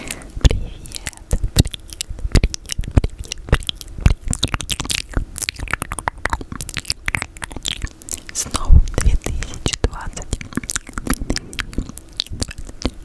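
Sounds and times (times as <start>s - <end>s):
sticky mouth clicks and smacks: 0.0s - 13.0s.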